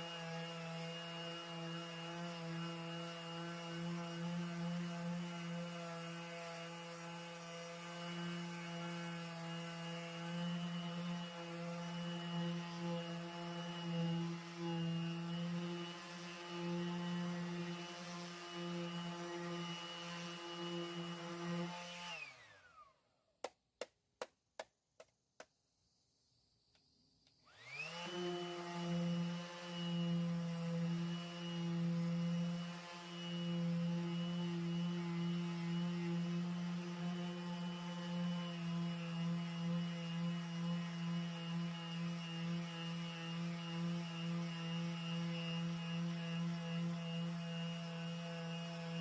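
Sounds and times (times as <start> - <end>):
power sander motor whine: 0.0 - 23.0, 27.3 - 49.0.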